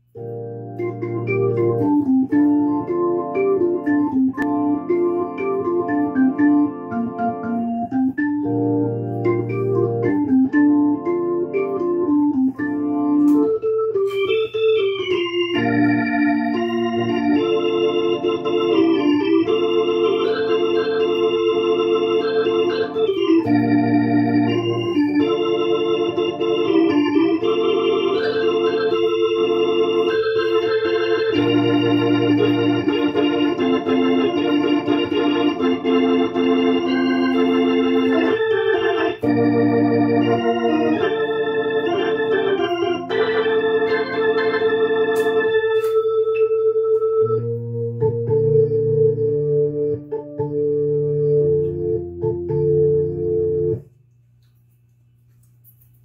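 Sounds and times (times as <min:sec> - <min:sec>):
deep bass organ note: 0:00.0 - 0:53.8
organ chords through rotating speaker: 0:00.0 - 0:56.0.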